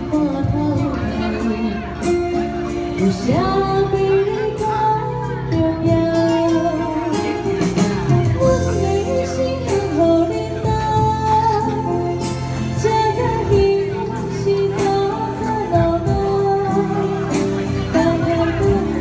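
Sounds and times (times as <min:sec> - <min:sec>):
electronic keyboard with bass: 0:00.0 - 0:19.0
woman singing ballad: 0:00.0 - 0:19.0.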